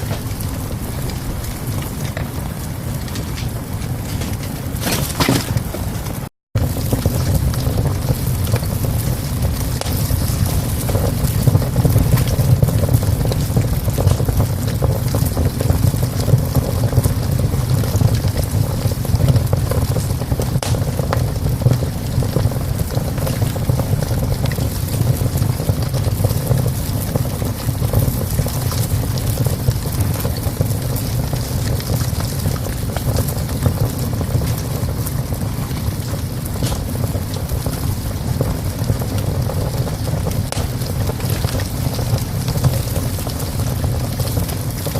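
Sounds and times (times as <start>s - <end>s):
sharp fire crackles: 0.0s - 44.9s
wood fire rumbling in stove: 0.0s - 44.9s.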